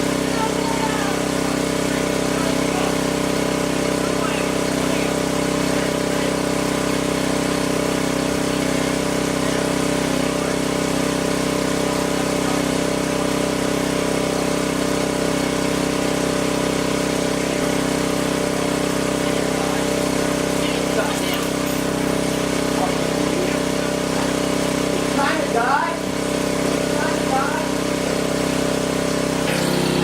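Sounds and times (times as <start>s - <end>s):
pressure washer engine drone: 0.0s - 30.0s.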